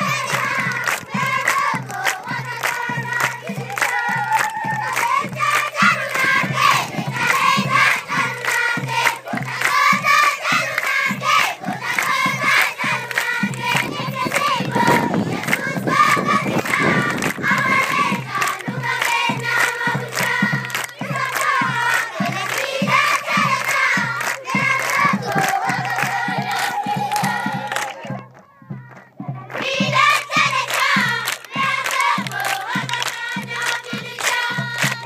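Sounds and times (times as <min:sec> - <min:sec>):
children singing in unison: 0:00.0 - 0:28.2, 0:29.2 - 0:35.0
hands clapping in time: 0:00.0 - 0:35.0.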